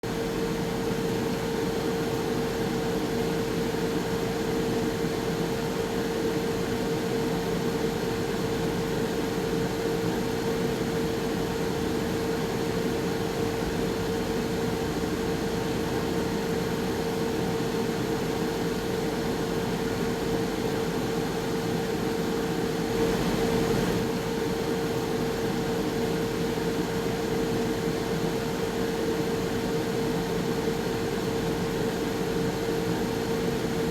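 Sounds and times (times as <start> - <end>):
air fryer fan whirring: 0.1 - 33.9.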